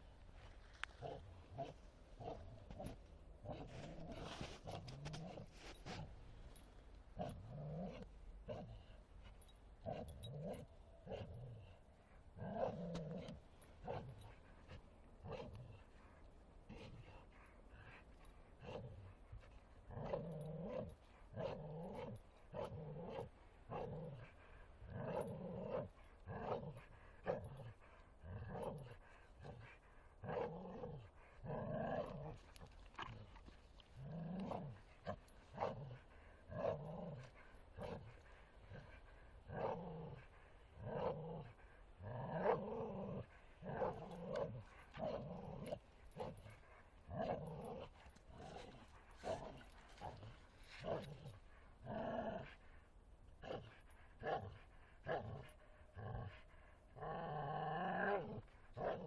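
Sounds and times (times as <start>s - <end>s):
dog growling in play: 0.8s - 6.2s, 7.2s - 9.0s, 9.8s - 59.0s.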